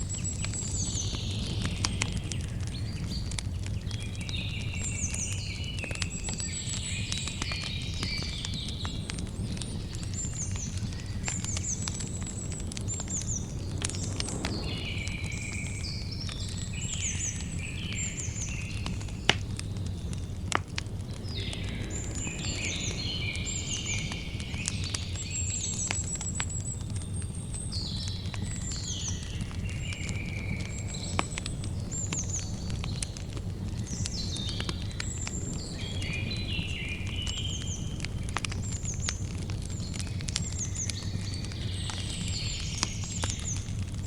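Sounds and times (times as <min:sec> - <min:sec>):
campfire crackling: 0:00.0 - 0:44.0
songbirds chirping and trilling: 0:00.0 - 0:44.0.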